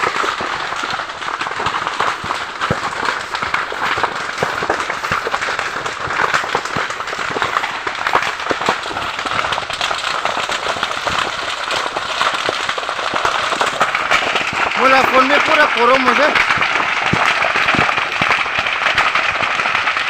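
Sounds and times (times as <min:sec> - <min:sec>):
brush fire crackling and popping: 0:00.0 - 0:20.0.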